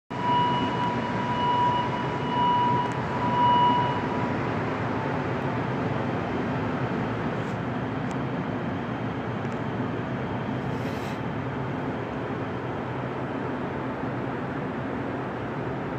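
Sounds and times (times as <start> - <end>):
high whine of train: 0.1 - 15.9
metro train rumbling: 0.1 - 15.9.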